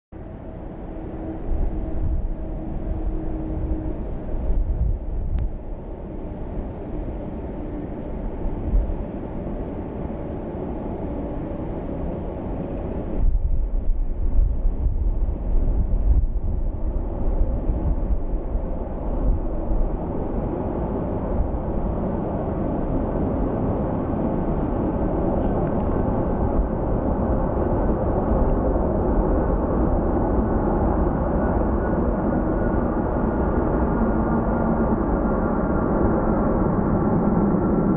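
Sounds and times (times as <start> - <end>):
jet engines rumbling: 0.2 - 37.9
wind buffeting microphone: 0.2 - 37.9.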